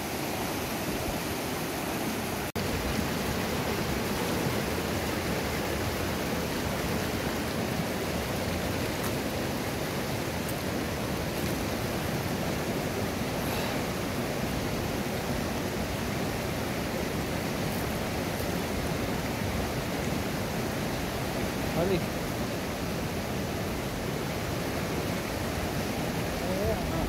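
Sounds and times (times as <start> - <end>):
river rushing over rocks: 0.0 - 27.0.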